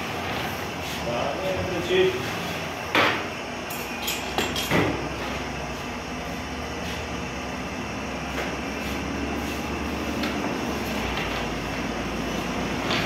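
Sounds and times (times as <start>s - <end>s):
gas burner rushing hum: 0.0s - 13.0s.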